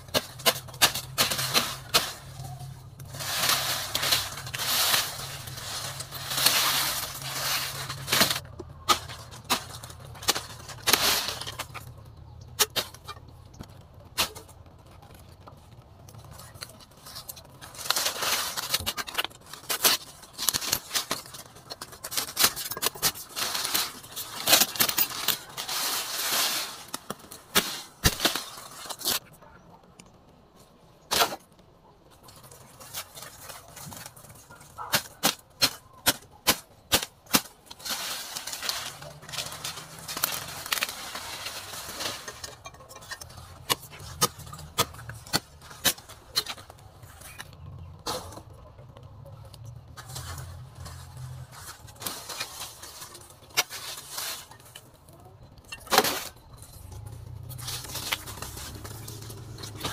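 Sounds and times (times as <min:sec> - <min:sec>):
cane chopping and snapping: 0:00.0 - 0:15.5, 0:16.2 - 0:29.3, 0:32.4 - 0:48.6, 0:55.8 - 0:59.9
dry leaves rustling: 0:00.0 - 0:29.6, 0:32.1 - 0:59.9.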